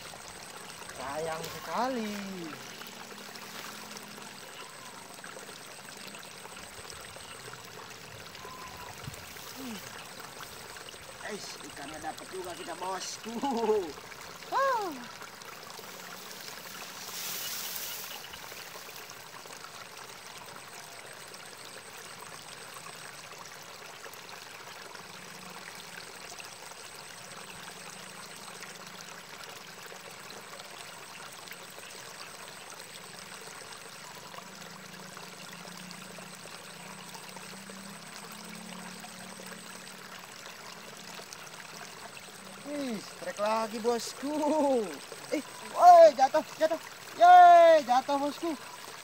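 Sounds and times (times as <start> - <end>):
water trickling through channel: 0.0 - 49.0.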